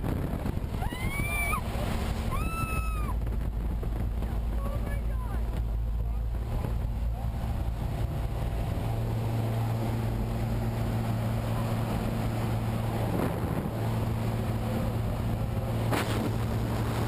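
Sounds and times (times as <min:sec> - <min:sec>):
rushing wind noise: 0:00.0 - 0:17.0
small plane engine droning: 0:00.0 - 0:17.0.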